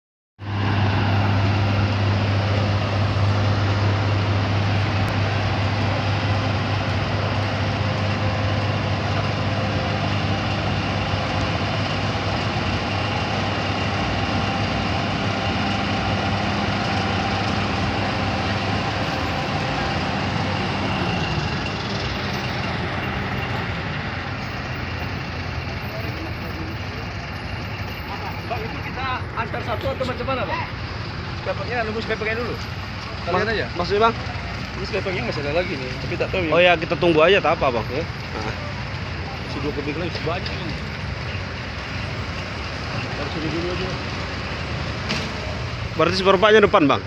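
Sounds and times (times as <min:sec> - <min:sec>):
diesel engine droning: 0:00.4 - 0:47.0.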